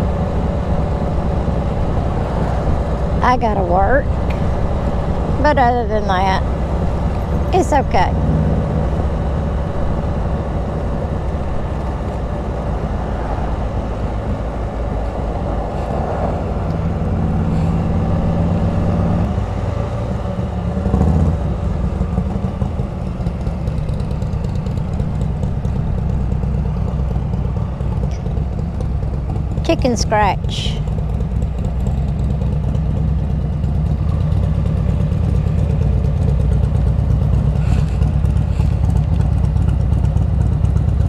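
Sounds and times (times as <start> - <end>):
motorcycle engine running: 0.0 - 41.0
road noise: 0.0 - 41.0.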